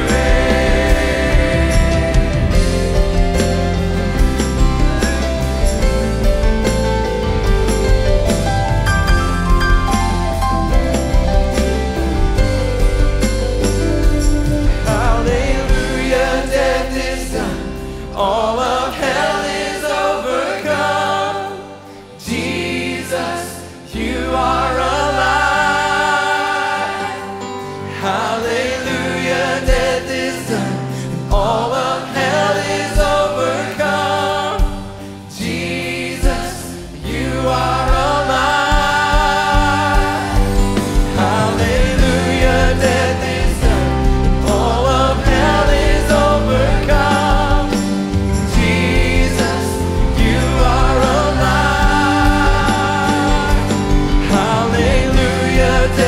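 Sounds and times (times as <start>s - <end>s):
band with piano guitars and drums: 0.0s - 56.0s
choir singing: 0.0s - 56.0s.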